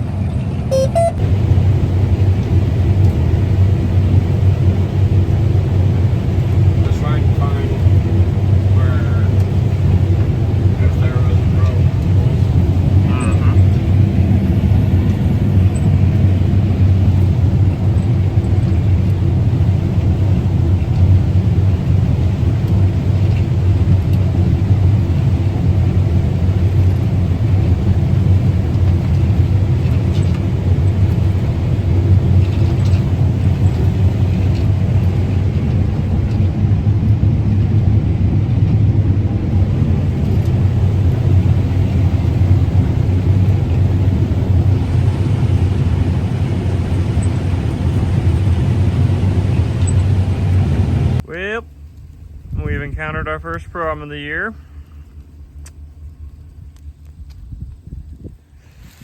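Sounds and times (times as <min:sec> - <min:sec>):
combine harvester droning: 0:00.0 - 0:59.0.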